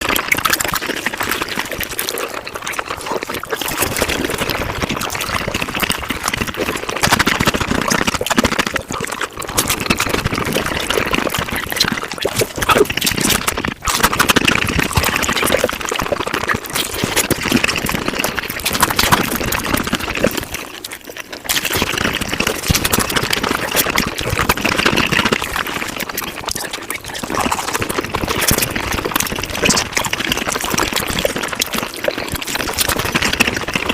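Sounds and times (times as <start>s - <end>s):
sped up chewing and mouth noises: 0.0s - 33.9s.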